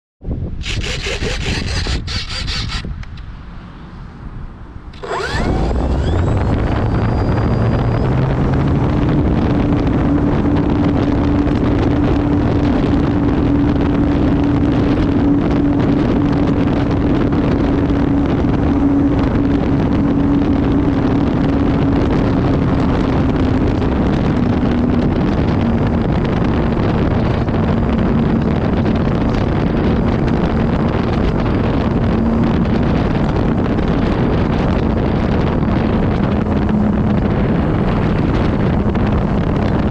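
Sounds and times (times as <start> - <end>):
wind rush over microphone: 0.2 - 39.9
electric motor and propeller whine: 0.6 - 3.6, 4.8 - 39.9.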